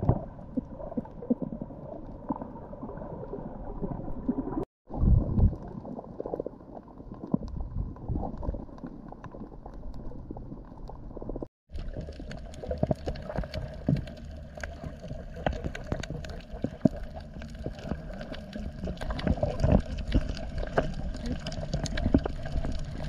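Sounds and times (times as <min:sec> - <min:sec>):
underwater clicks and crackles: 0:00.0 - 0:23.0
underwater rumble of moving water: 0:00.0 - 0:23.0.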